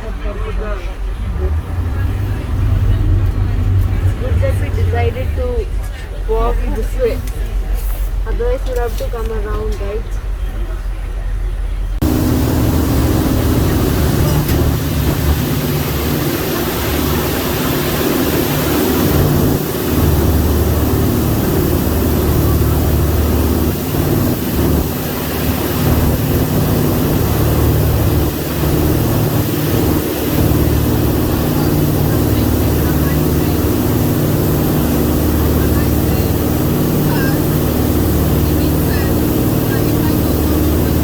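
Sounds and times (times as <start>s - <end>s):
boat diesel engines droning: 0.0s - 41.0s.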